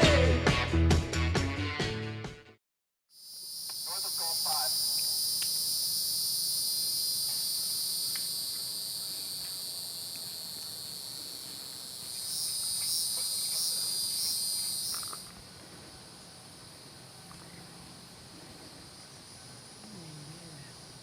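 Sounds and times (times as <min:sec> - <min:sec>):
insect chorus: 0:03.1 - 0:21.0
pulsing insect call: 0:03.1 - 0:21.0.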